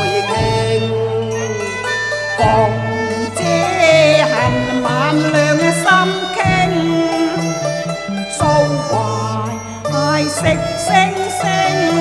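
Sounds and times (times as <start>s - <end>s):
bowed two-string fiddle melody: 0.0s - 12.0s
opera ensemble playing: 0.0s - 12.0s
stepping bass line: 0.0s - 12.0s.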